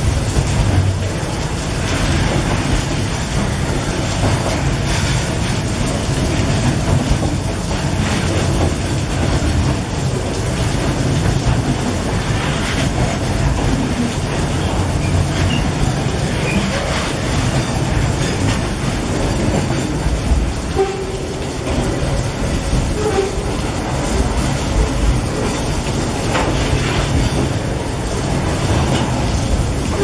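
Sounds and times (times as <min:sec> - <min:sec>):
freight wagons rumbling on rails: 0:00.0 - 0:30.0
heavy rain: 0:00.0 - 0:30.0.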